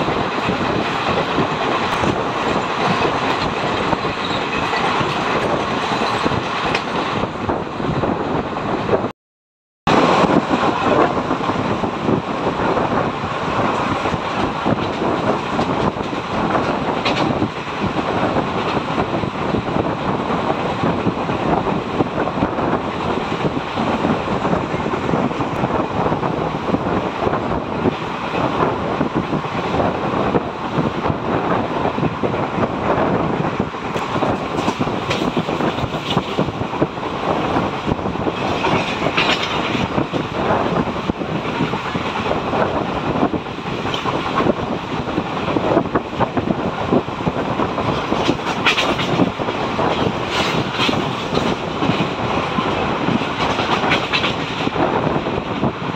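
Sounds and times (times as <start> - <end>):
passing goods train: 0.0 - 9.1, 9.9 - 55.9
rushing air: 0.0 - 9.1, 9.9 - 55.9
train wheel-on-rail noise: 0.0 - 9.1, 9.9 - 55.9.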